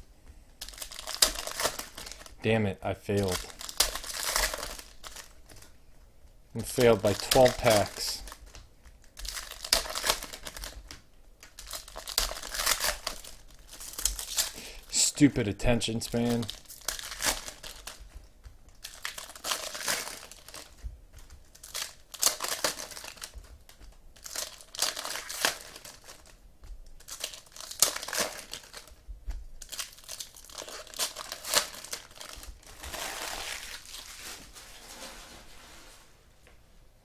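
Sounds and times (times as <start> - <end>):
foil wrappers torn and crinkled: 0.6 - 2.4, 3.1 - 5.8, 6.6 - 35.0.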